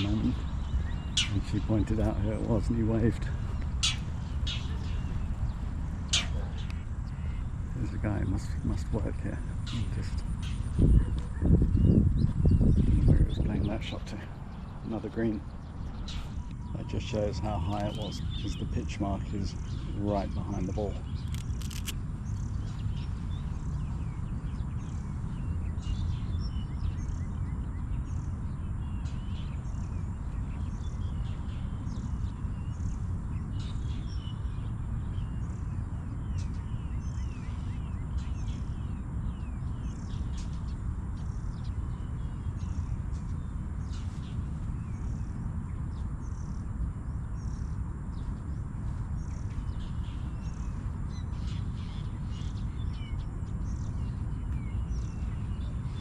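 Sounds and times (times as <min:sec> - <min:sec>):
birds chirping: 0:00.0 - 0:56.0
steady low rumble: 0:00.0 - 0:56.0.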